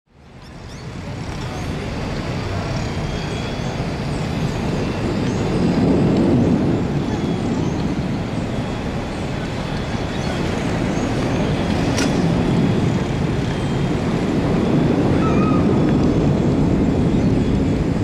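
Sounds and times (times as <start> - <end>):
street traffic hum: 0.1 - 18.0.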